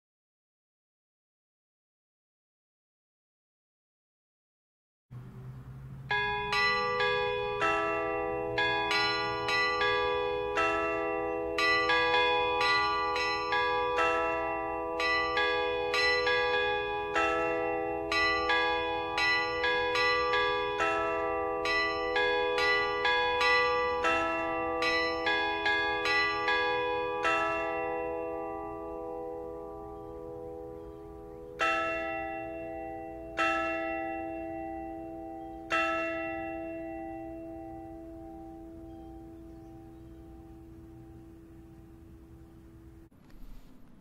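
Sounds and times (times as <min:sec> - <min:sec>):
church bells ringing: 0:05.2 - 0:43.1.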